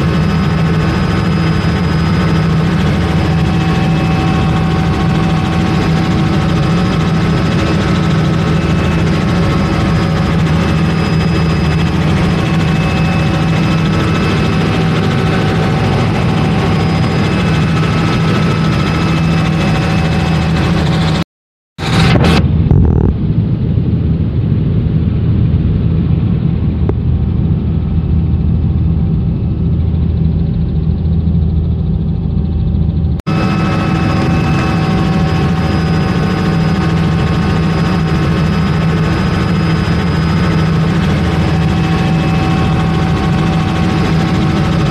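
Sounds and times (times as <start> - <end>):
helicopter turbine and rotor drone: 0.0 - 21.2, 21.8 - 44.9
high whine: 0.0 - 21.2, 21.8 - 44.9.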